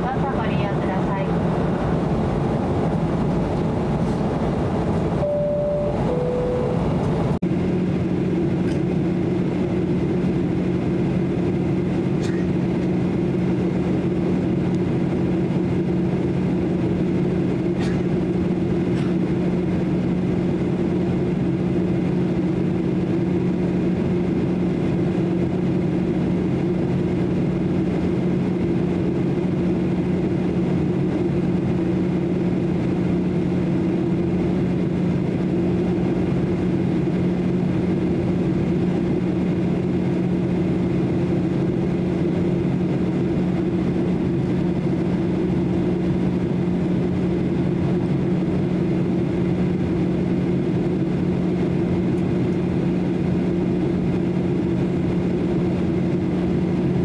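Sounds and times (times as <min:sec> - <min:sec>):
jet engines droning: 0:00.0 - 0:57.0
steady low hum: 0:00.0 - 0:57.0.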